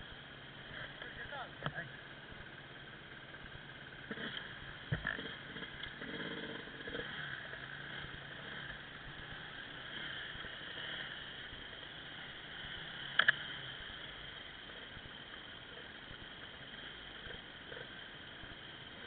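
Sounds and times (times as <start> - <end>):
low hum: 0.0 - 19.0
motorcycle engines running: 0.0 - 19.0.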